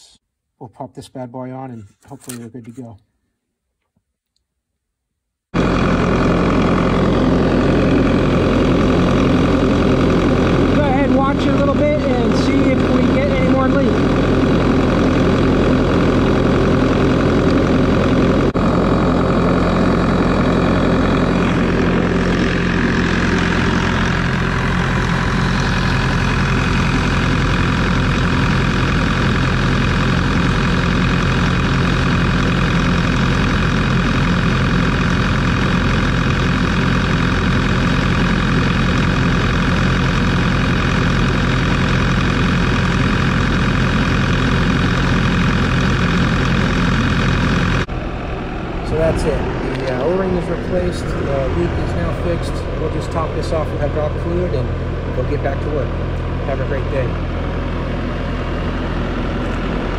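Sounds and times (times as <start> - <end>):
diesel engine idling: 5.6 - 59.9.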